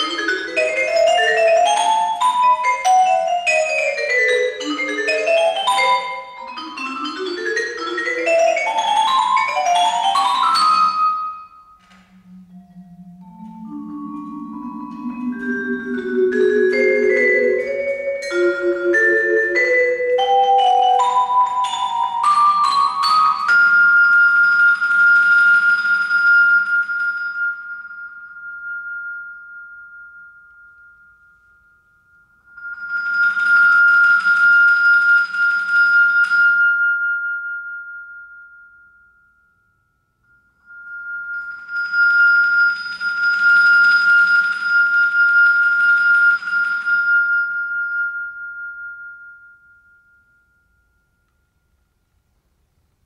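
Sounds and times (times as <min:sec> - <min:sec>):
vibraphone notes: 0:00.0 - 0:52.0.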